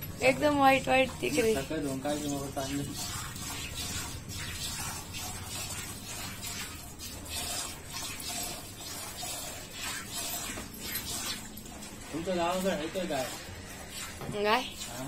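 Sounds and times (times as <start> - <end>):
milk squirting into steel bucket: 0.3 - 15.0.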